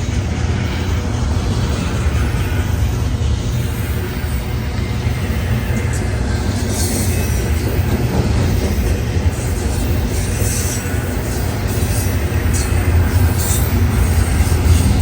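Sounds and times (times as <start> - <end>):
train rumbling past: 0.0 - 15.0
train wheel squeals: 0.0 - 15.0.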